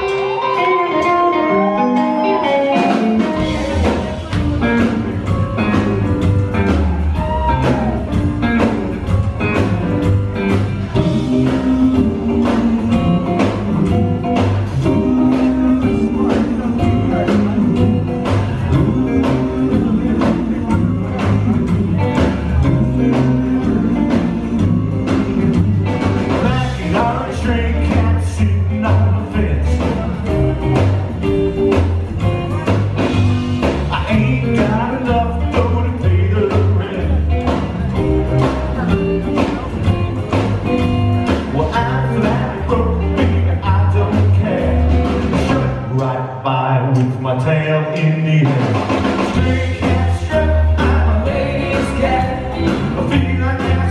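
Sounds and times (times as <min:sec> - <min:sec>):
rockabilly band playing: 0:00.0 - 0:53.9
slapped double bass: 0:00.0 - 0:53.9
man singing: 0:00.6 - 0:31.0, 0:32.4 - 0:53.9.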